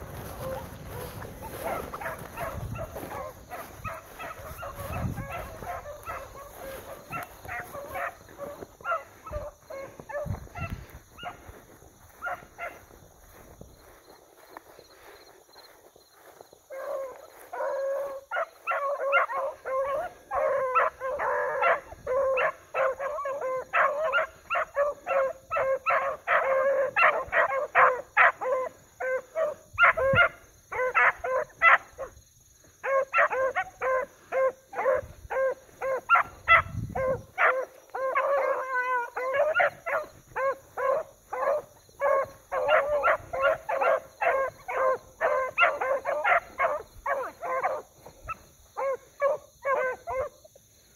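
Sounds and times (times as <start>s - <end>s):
dogs baying and barking: 0.0s - 50.9s.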